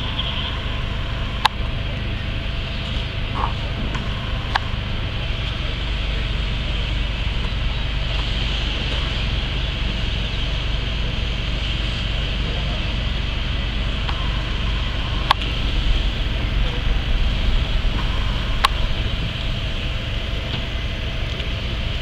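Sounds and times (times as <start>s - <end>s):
fire hoses spraying water: 0.0s - 22.0s
low engine rumble: 0.0s - 22.0s.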